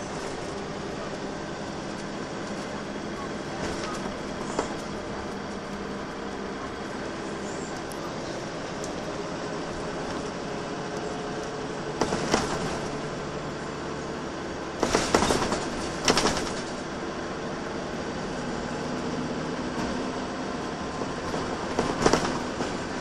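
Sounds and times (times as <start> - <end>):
bus engine running: 0.0 - 23.0
road noise: 0.0 - 23.0.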